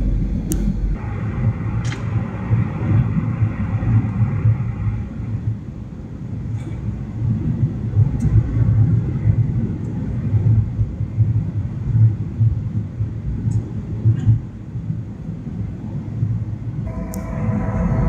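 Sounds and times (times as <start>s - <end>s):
airliner landing rumble: 0.0s - 18.0s.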